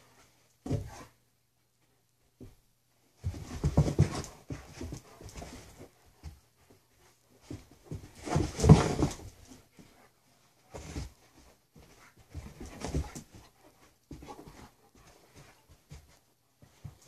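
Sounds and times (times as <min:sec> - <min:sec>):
dogs sniffing and panting: 0:03.2 - 0:17.0.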